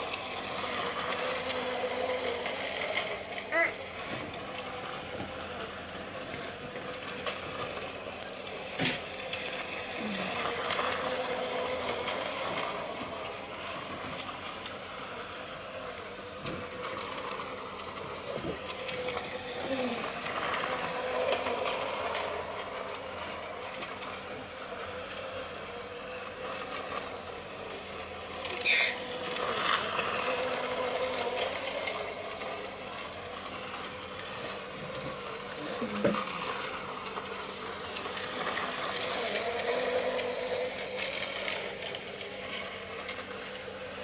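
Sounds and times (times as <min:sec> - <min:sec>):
toy train motor whirring: 0:00.0 - 0:44.0
wheels clicking on track: 0:00.0 - 0:44.0.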